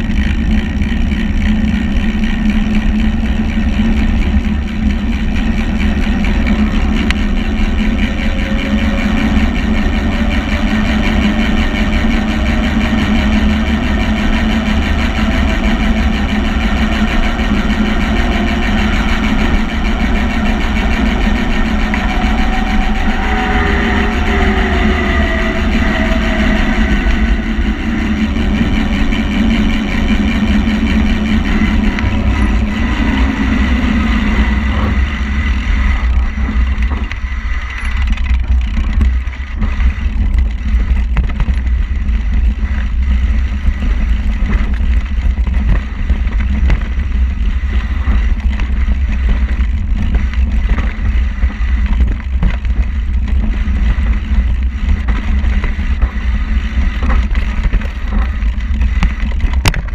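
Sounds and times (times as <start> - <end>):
vehicle engine rumble: 0.0 - 59.9.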